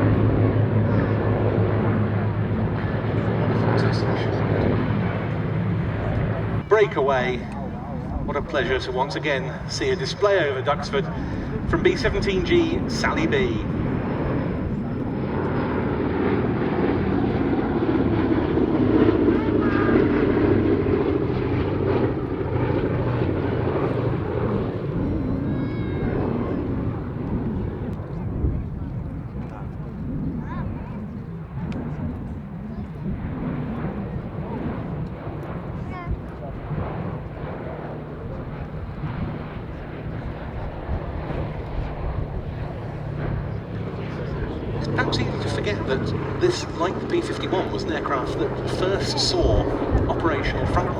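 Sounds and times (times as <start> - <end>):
propeller plane droning: 0.0 - 50.9.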